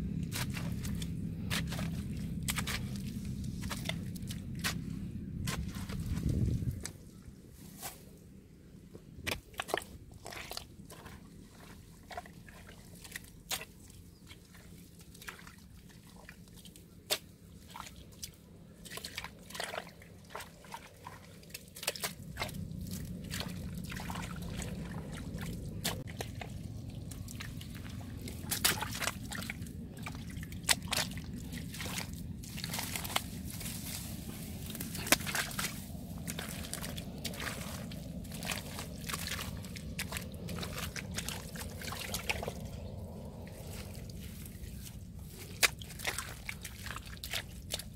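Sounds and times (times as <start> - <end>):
mud squelching and sloshing: 0.0 - 8.0, 9.2 - 47.9
low steady rumble: 0.0 - 47.9.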